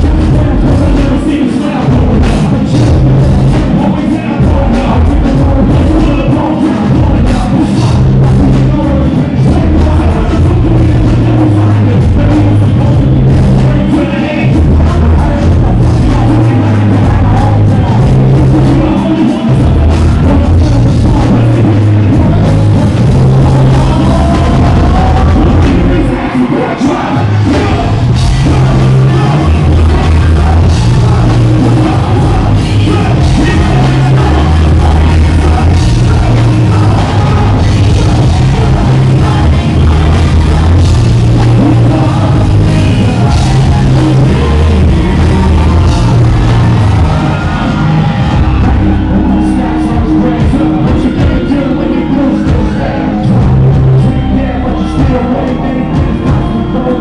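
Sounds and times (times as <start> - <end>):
backing track with heavy bass: 0.0 - 57.0
person rapping: 0.0 - 57.0.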